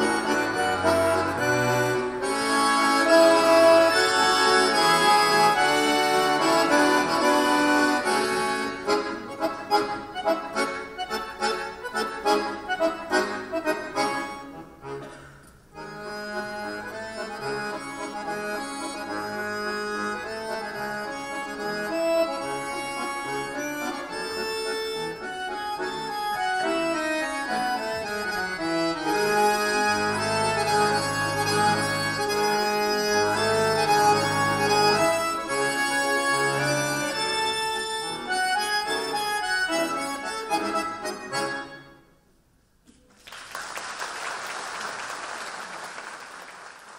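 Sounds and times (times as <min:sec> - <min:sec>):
accordion duet: 0:00.0 - 0:42.5.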